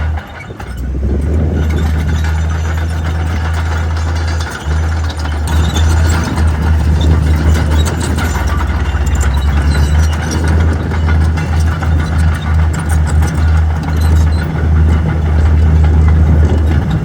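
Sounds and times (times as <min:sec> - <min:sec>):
heavy diesel engine rumbling: 0:00.0 - 0:17.0
sharp clicks and rattles: 0:00.0 - 0:17.0.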